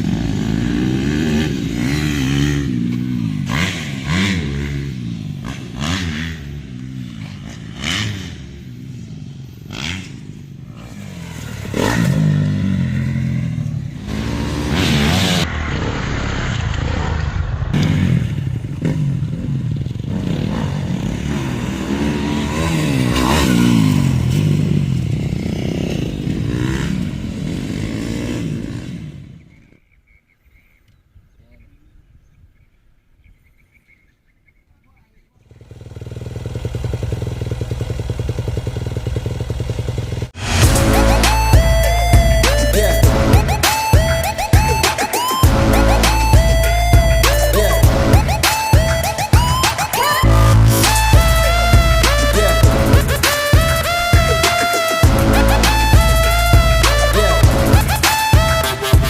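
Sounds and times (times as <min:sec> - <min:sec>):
motocross bike engine revving: 0:00.0 - 0:29.5, 0:35.4 - 0:59.0.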